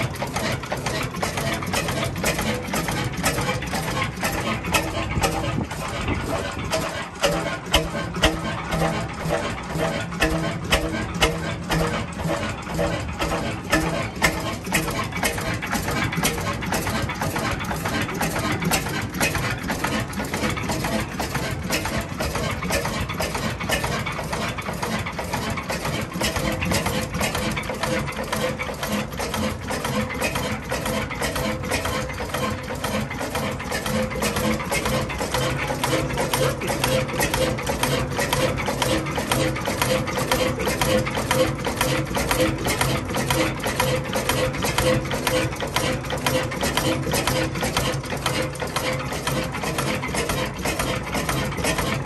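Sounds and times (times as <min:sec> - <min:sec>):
stationary engine running: 0:00.0 - 0:52.0
valve gear clicking and knocking: 0:00.0 - 0:52.0.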